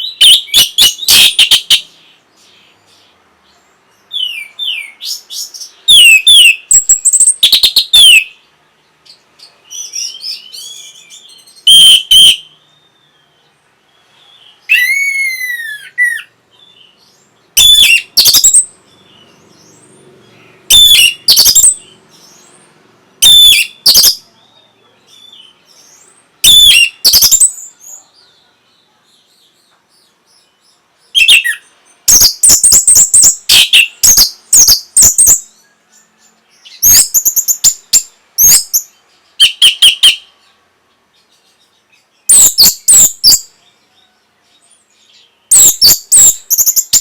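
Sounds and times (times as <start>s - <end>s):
bird twittering: 0.0s - 3.1s, 4.1s - 8.4s, 9.1s - 13.4s, 14.0s - 24.5s, 25.1s - 28.4s, 30.0s - 40.6s, 41.5s - 43.5s, 45.0s - 47.0s
whistled bird notes: 0.0s - 3.1s, 4.1s - 8.4s, 9.1s - 22.6s, 23.2s - 28.6s, 30.4s - 40.6s, 41.2s - 47.0s.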